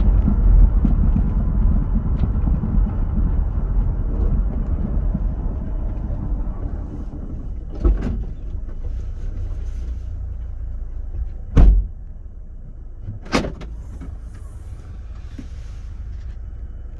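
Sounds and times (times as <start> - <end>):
low road rumble: 0.0 - 16.9.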